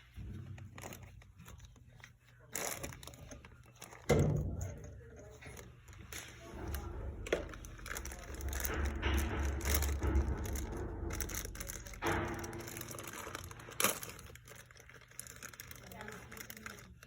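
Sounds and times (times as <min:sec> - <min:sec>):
low steady hum: 0:00.0 - 0:17.0
tools scraping and crunching: 0:00.0 - 0:17.0.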